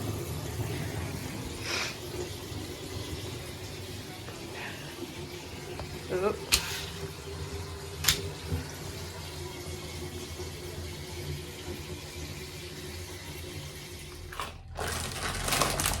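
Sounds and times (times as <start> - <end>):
water pouring into bathtub: 0.0 - 16.0.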